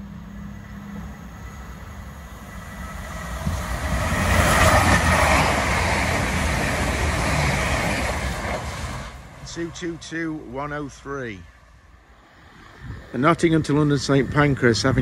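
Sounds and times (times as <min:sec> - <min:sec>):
diesel train passing: 0:00.0 - 0:15.0
wheels rumbling on rails: 0:00.0 - 0:15.0.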